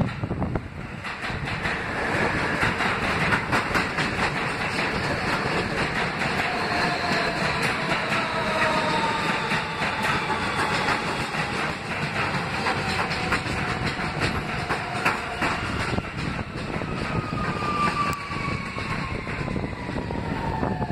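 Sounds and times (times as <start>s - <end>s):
wheels clicking over rail joints: 0.0s - 20.3s
subway train rumbling: 0.0s - 20.9s.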